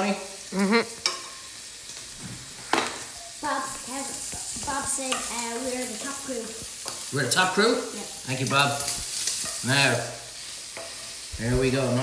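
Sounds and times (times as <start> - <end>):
bacon sizzling in a frying pan: 0.0 - 12.0
utensil stirring food: 0.7 - 12.0.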